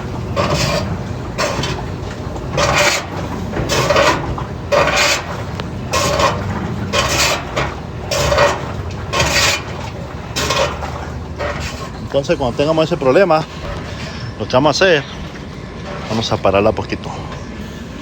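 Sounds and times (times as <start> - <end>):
rhythmic harsh scraping: 0.0 - 18.0
washing machine running: 0.0 - 18.0.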